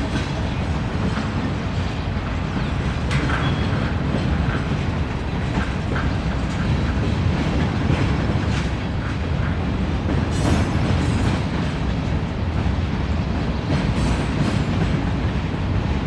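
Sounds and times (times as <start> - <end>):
freight train rumbling past: 0.0 - 16.0
wheels clicking over rail joints: 0.0 - 16.0.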